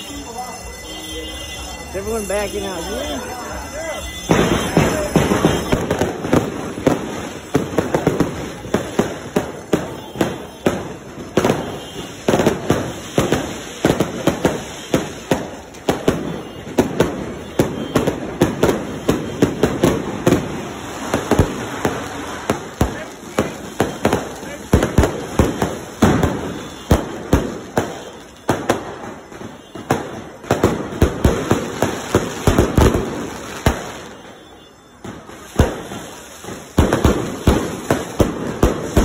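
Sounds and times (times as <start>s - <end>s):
firecrackers and fireworks banging: 0.0s - 39.0s.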